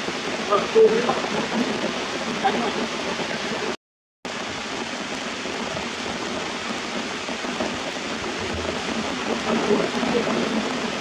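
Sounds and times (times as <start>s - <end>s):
rain falling on leaves and rocks: 0.0s - 11.0s.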